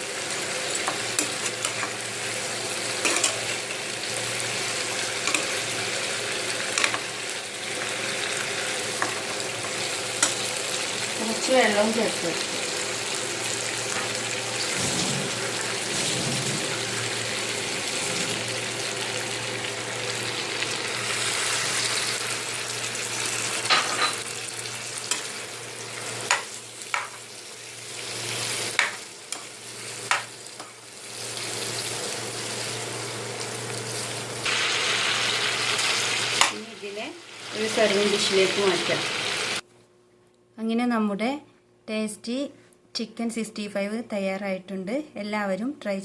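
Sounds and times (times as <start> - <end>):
meat sizzling in a pan: 0.0 - 39.6.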